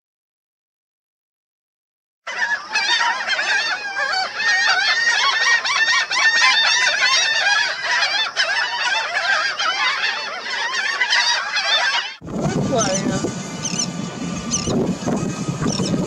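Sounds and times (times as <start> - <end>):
flock of birds calling: 2.3 - 16.0.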